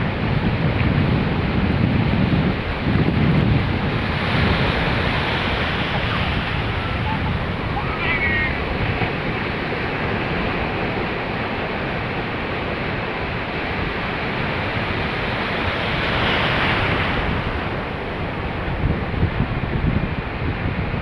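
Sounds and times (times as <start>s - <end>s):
sea waves breaking on shore: 0.0s - 21.0s
wind rumbling on microphone: 0.0s - 21.0s.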